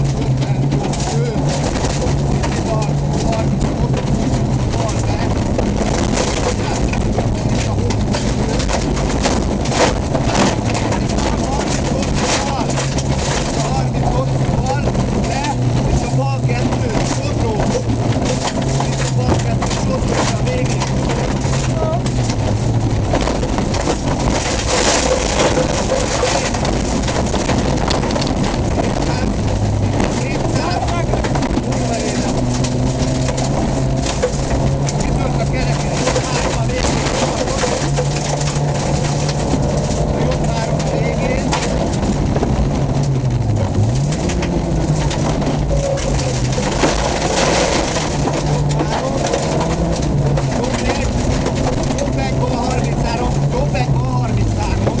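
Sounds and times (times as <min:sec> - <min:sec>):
body and tyres rattling: 0:00.0 - 0:55.0
car engine running under load: 0:00.0 - 0:55.0.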